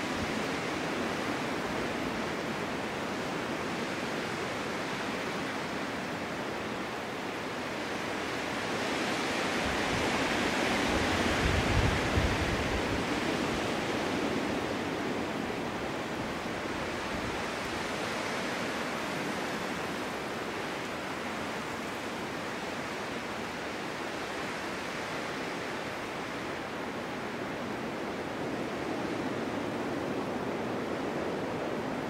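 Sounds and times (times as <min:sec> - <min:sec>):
wind blowing: 0:00.0 - 0:32.0.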